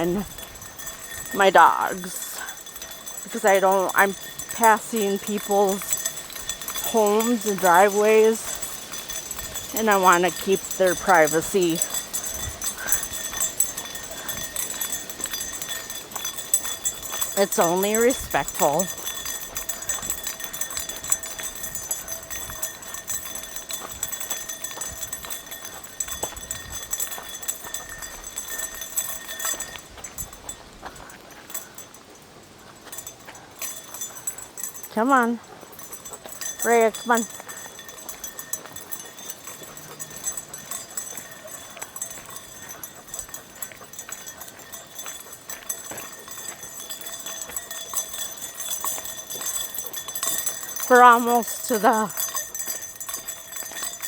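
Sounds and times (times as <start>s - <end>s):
footsteps on a road: 0.0s - 54.0s.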